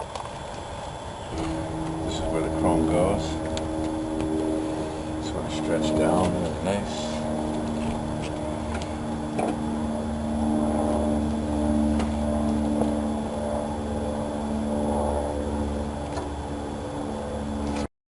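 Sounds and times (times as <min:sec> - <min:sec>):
engine drone: 0:00.0 - 0:17.9.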